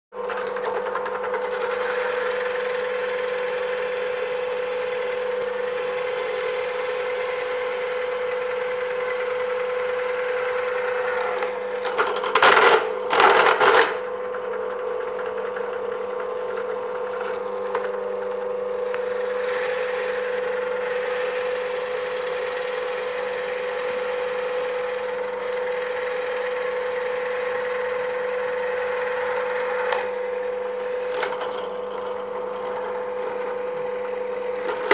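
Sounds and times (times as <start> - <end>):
drill press motor hum: 0.2 - 34.9
plug cutter boring into wood: 0.2 - 34.9.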